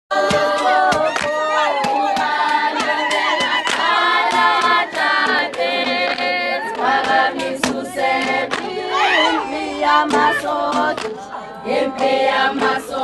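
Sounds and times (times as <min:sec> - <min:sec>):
group of voices singing: 0:00.1 - 0:13.0
sharp percussive beats: 0:00.1 - 0:13.0.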